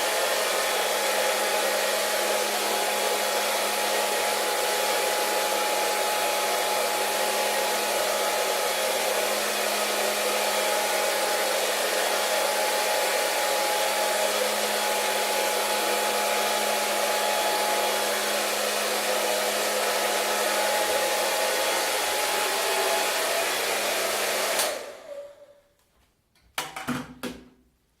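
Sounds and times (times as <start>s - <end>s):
hair dryer running: 0.0s - 25.5s.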